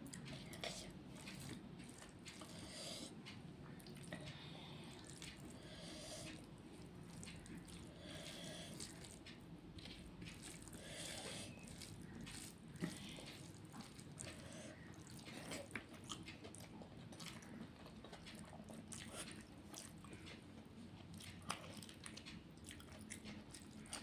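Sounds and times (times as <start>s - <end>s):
wet chewing sounds: 0.0s - 24.0s.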